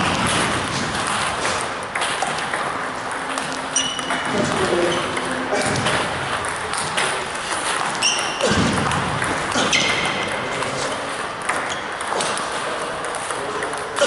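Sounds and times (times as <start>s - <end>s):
table tennis balls clicking: 0.0s - 14.0s.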